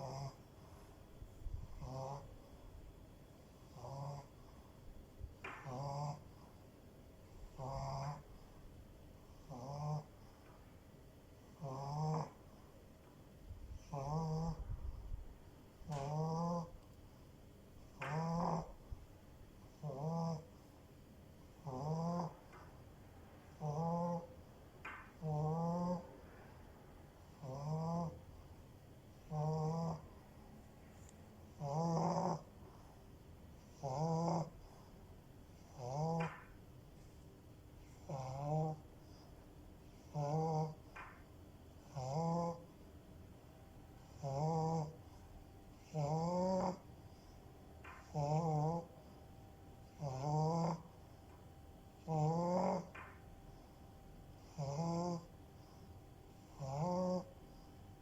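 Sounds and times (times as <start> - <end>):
dog snoring: 0.0 - 6.6, 7.2 - 10.6, 11.3 - 22.8, 23.4 - 37.2, 37.8 - 42.9, 43.5 - 58.0.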